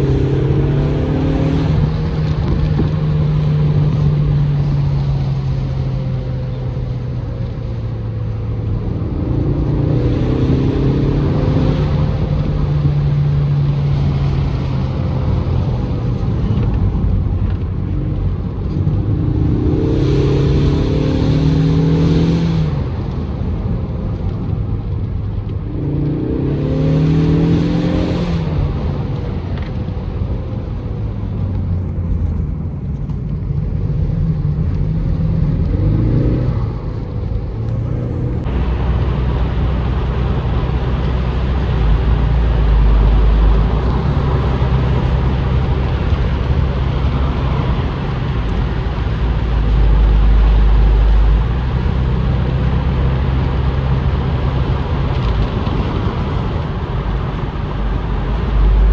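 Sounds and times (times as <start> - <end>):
car engine accelerating: 0.0 - 58.9
wind buffeting open car: 0.0 - 58.9.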